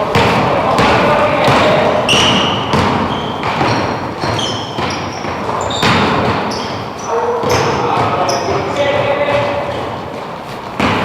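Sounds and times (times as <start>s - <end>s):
basketballs bouncing indoors: 0.0s - 11.0s
players' voices: 0.0s - 11.0s
sneaker squeaks: 0.0s - 11.0s.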